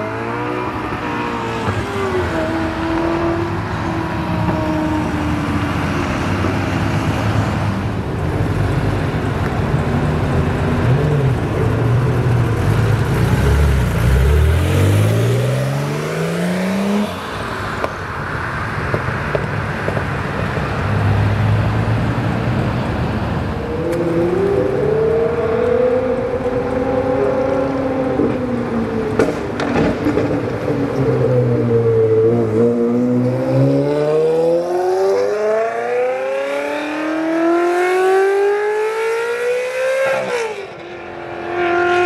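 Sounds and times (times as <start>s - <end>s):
car engines accelerating: 0.0s - 42.0s.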